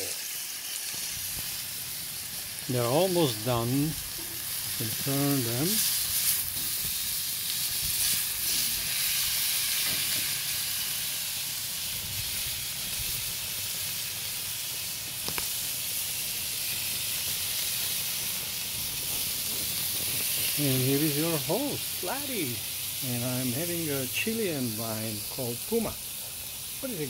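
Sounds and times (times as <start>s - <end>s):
steaks sizzling on a griddle: 0.0s - 27.0s.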